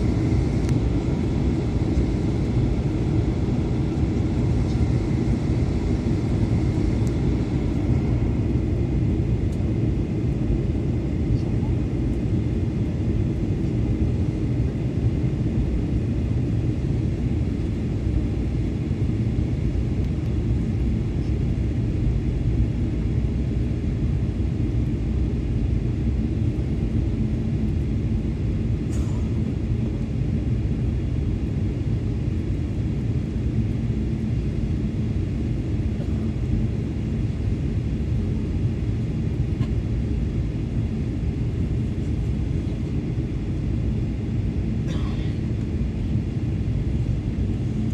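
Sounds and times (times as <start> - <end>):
airliner cabin rumble: 0.0 - 47.9
faint steady hum: 0.0 - 47.9.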